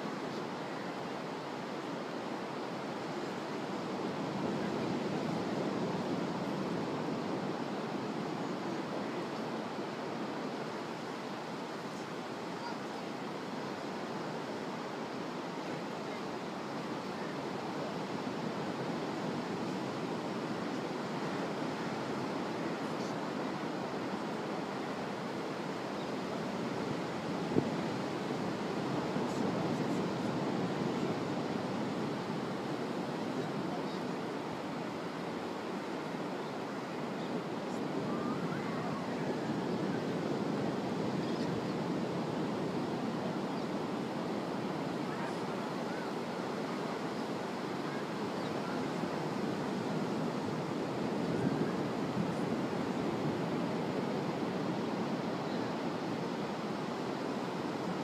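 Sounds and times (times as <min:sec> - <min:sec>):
ocean waves washing on beach: 0:00.0 - 0:58.0.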